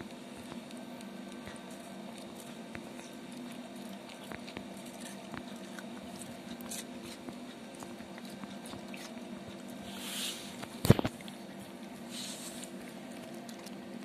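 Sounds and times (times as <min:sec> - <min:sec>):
cat licking and chewing: 0:00.0 - 0:14.0
steady low hum: 0:00.0 - 0:14.0.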